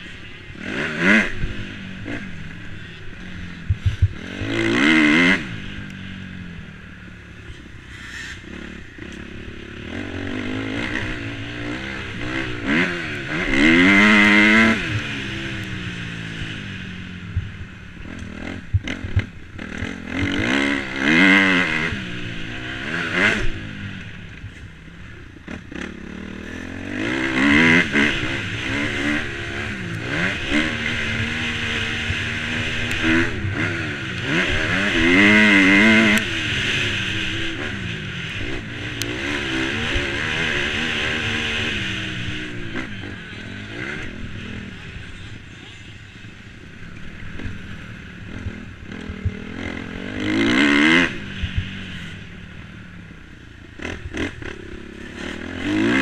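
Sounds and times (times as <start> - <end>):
motocross engine revving: 0.5 - 6.7, 7.4 - 24.4, 25.0 - 45.5, 46.6 - 52.4, 53.7 - 56.0.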